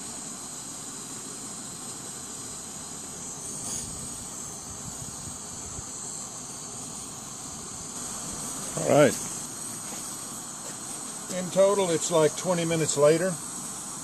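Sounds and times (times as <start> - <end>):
gas stove hissing: 0.0 - 14.0
venting gas burning: 0.0 - 14.0.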